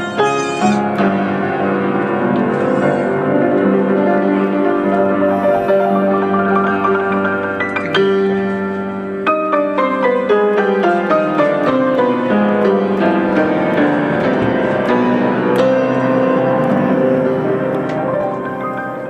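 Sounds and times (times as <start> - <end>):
piano-like keyboard music: 0.0 - 19.0.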